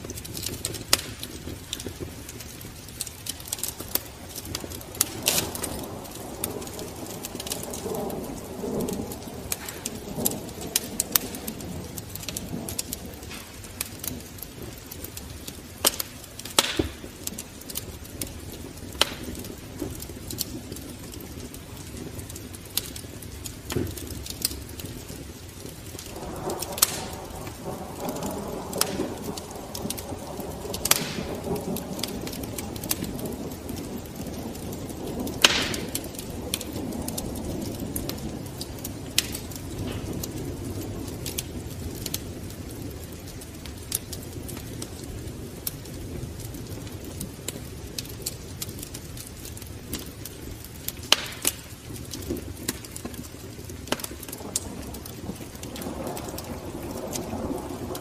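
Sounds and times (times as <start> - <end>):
sharp crackles and pops: 0.0 - 58.0
steady hiss: 0.0 - 58.0.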